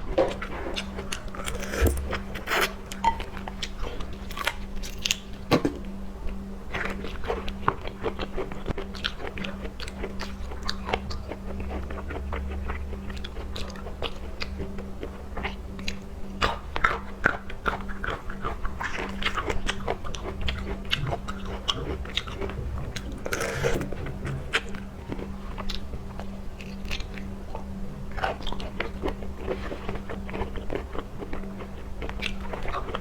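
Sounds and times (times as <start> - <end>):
steady low hum: 0.0 - 33.0
chewing and biting seafood: 0.3 - 5.4, 6.7 - 33.0.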